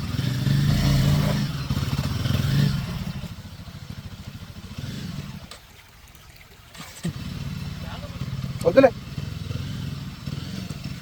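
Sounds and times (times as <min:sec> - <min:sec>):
motorcycle engine running: 0:00.0 - 0:05.7, 0:06.7 - 0:11.0.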